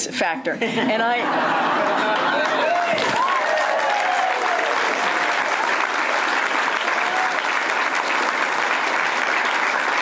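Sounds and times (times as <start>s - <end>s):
audience clapping: 1.7s - 10.0s.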